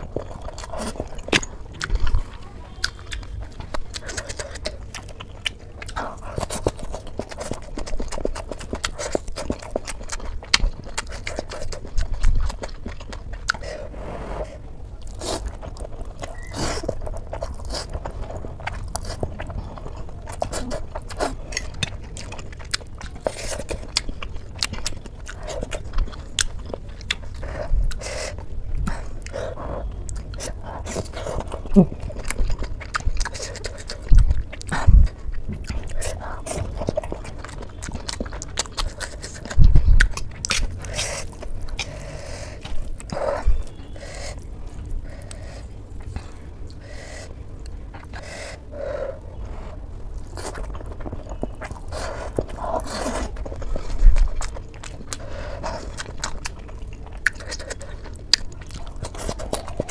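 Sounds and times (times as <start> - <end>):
person chewing noodles: 0.0 - 59.9.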